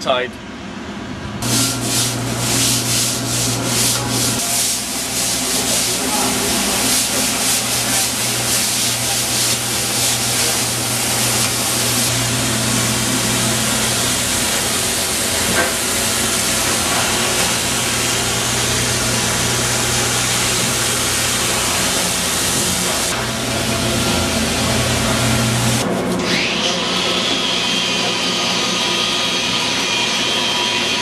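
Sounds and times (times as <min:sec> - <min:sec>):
low machine hum: 0:00.0 - 0:26.1
cleaning machine hissing: 0:01.4 - 0:31.0.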